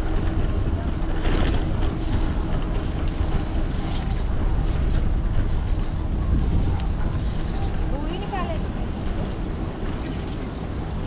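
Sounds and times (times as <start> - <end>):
bicycle tyres rolling on bricks: 0.0 - 11.0
wind noise on microphone: 0.0 - 11.0.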